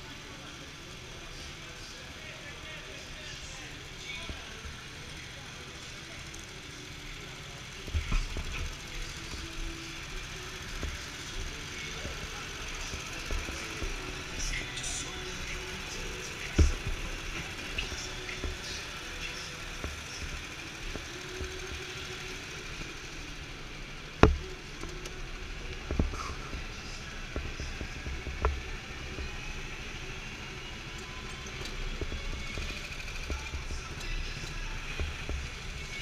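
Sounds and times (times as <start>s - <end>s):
go-kart engine hum and whine: 0.0s - 36.0s.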